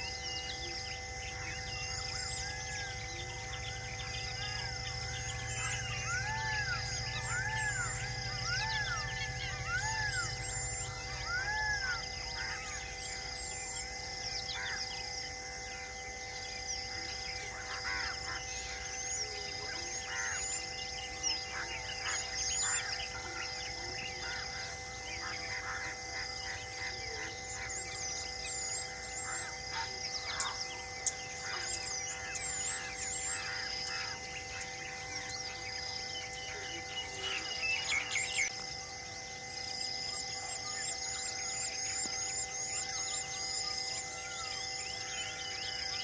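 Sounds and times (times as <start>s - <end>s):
birds chirping and calling: 0.0s - 46.0s
steady hum: 0.0s - 46.0s.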